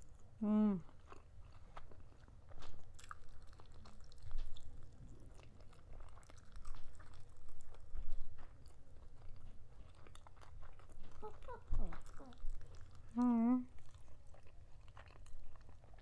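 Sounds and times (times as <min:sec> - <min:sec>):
person chewing and biting food: 0:00.0 - 0:16.0.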